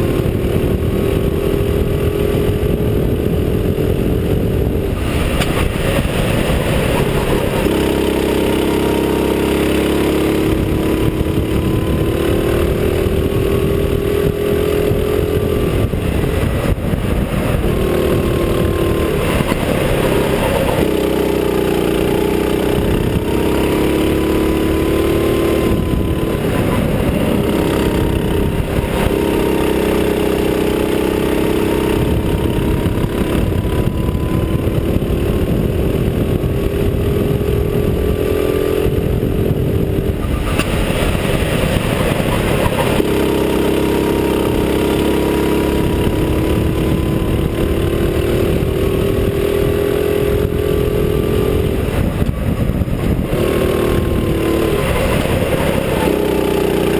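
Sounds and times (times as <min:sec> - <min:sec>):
go-kart engine accelerating: 0:00.0 - 0:56.9.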